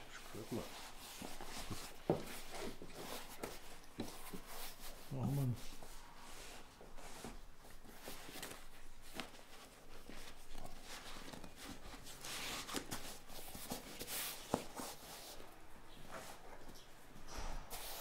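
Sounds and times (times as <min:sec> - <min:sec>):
leather rustling and rubbing: 0:00.1 - 0:16.6.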